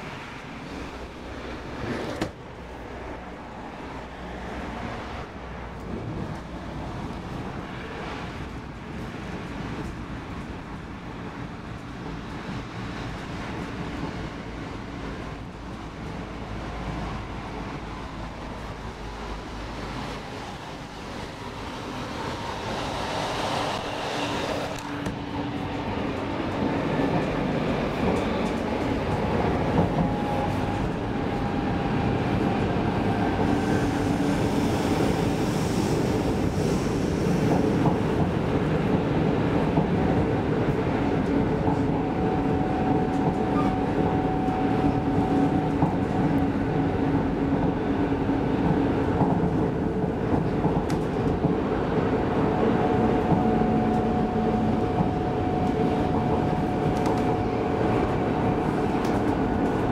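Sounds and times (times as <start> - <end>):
train interior running noise: 0.0 - 59.9.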